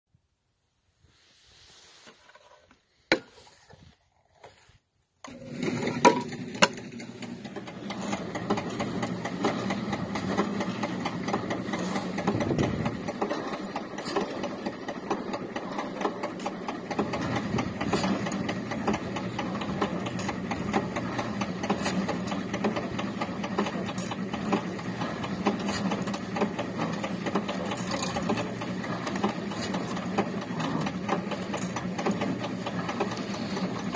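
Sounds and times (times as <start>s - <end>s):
tow rope machine humming and rattling: 5.2s - 33.9s.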